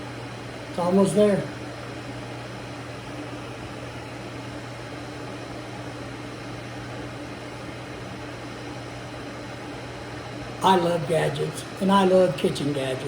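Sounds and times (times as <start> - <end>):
electric kettle heating water: 0.0 - 13.0.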